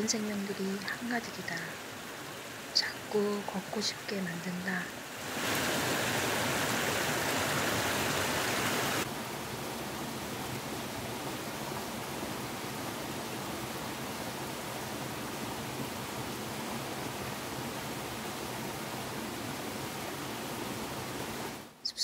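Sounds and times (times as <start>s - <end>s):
stream rushing over rocks: 0.0s - 21.7s.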